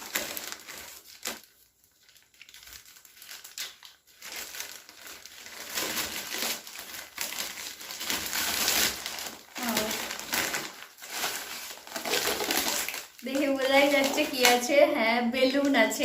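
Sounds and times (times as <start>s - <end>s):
packaging crinkling and tearing: 0.0s - 14.8s.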